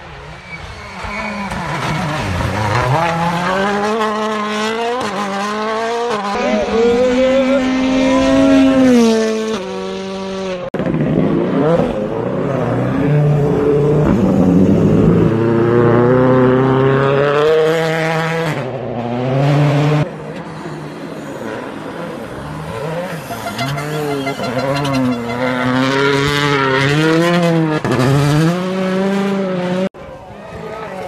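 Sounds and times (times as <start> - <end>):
rally car engines revving hard: 0.1 - 30.0.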